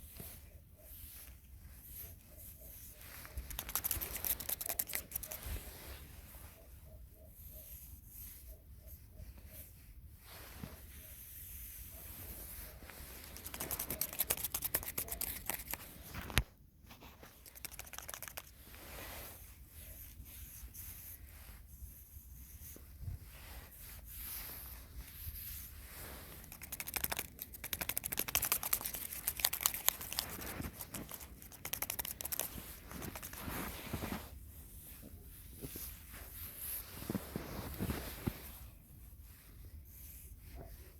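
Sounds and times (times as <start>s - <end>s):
hands rustling and crinkling materials: 0.0s - 6.6s, 9.2s - 40.9s.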